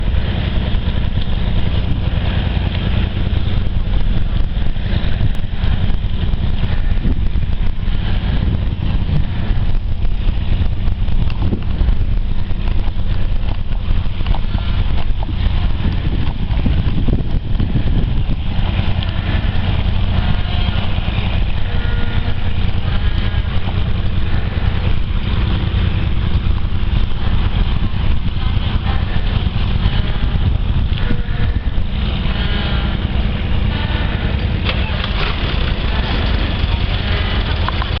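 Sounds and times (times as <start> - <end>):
tugboat engines droning: 0.0 - 38.0.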